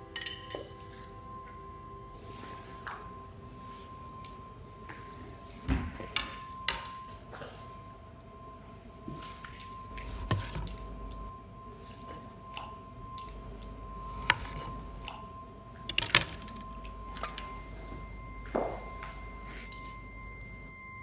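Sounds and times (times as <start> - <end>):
steady held tone: 0.0 - 21.0.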